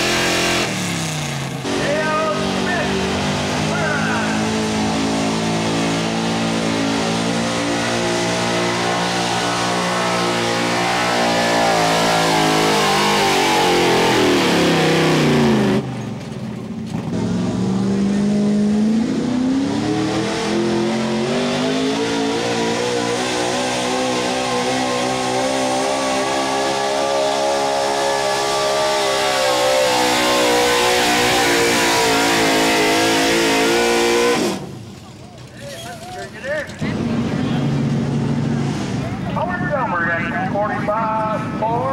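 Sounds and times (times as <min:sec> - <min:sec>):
pulling truck engine revving: 0:00.0 - 0:41.9.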